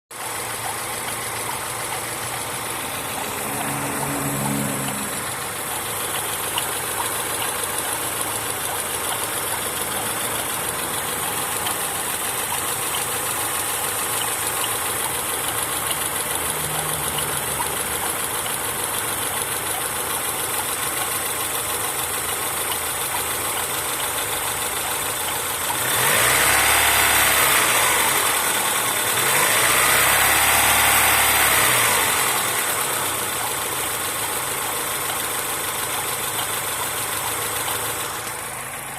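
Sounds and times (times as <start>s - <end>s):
car engine idling and revving: 0.1s - 38.9s
extraneous engine noise: 0.1s - 38.9s.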